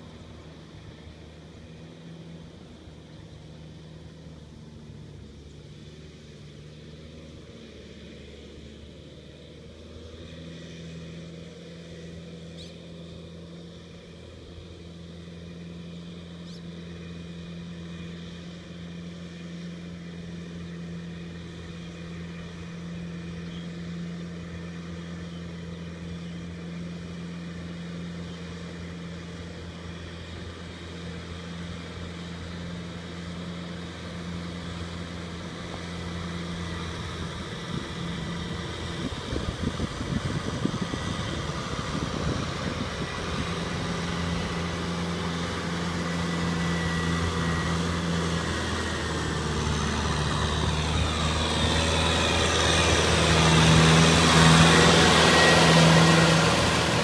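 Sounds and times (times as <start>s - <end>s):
diesel tractor engine running: 0.0s - 57.0s
tiller churning mud: 0.0s - 57.0s.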